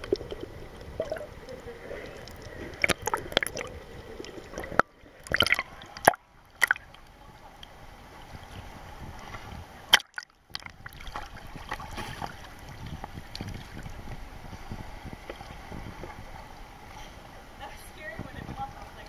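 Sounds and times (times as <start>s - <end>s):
water splashing: 0.0s - 19.0s.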